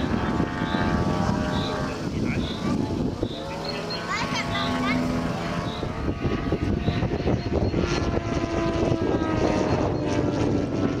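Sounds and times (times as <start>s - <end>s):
model airplane engine: 0.0s - 11.0s.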